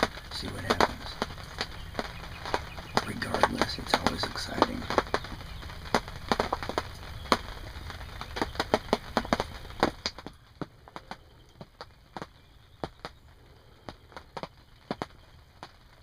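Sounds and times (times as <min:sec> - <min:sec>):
low steady hiss: 0:00.0 - 0:16.0
raindrops tapping on fabric: 0:00.0 - 0:16.0.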